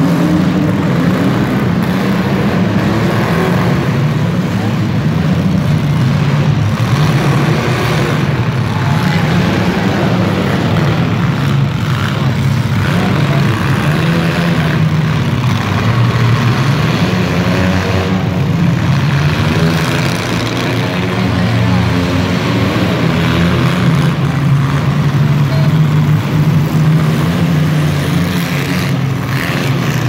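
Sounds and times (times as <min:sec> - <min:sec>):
car engines running: 0:00.0 - 0:30.0.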